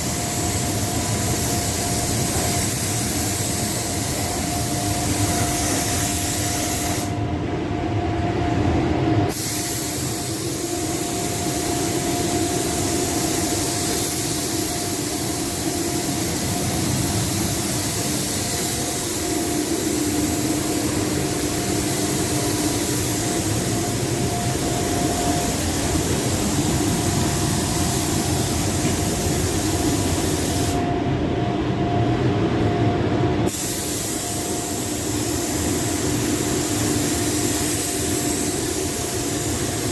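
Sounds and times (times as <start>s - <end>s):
spray gun hissing: 0.0s - 7.2s, 9.3s - 30.9s, 33.4s - 39.9s
steady hum: 0.0s - 39.9s.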